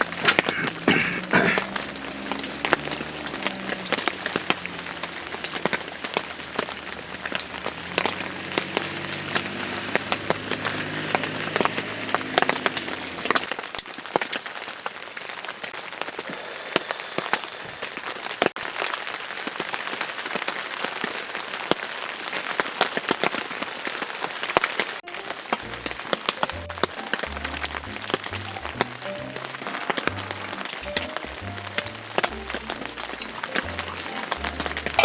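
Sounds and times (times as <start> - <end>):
campfire crackling and popping: 0.0 - 16.4, 18.2 - 35.0.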